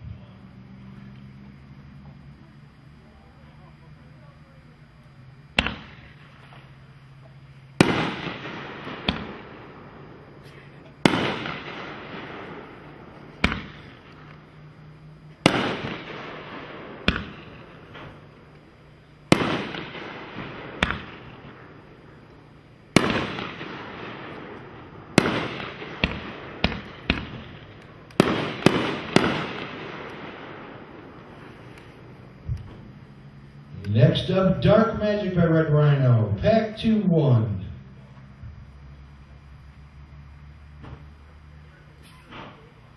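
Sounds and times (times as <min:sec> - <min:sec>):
fireworks hiss: 0:00.0 - 0:34.1, 0:37.8 - 0:42.9
fireworks bangs: 0:00.0 - 0:42.9
small fireworks pops: 0:00.8 - 0:33.2, 0:40.7 - 0:42.9.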